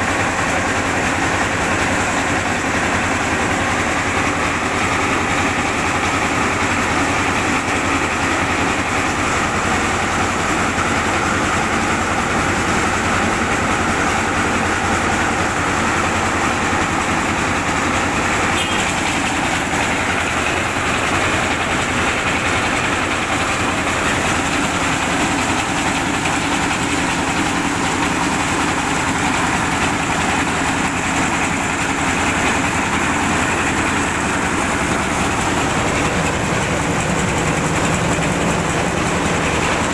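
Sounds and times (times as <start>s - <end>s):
engine hum: 0.0s - 39.9s
grain rushing through mill: 0.0s - 39.9s.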